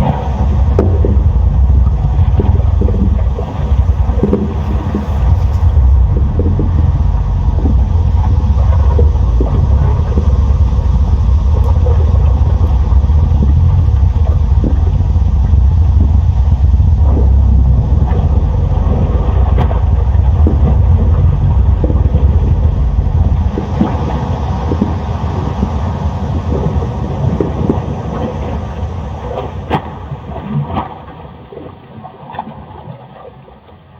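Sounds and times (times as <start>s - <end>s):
deep volcanic rumble: 0.0s - 31.8s.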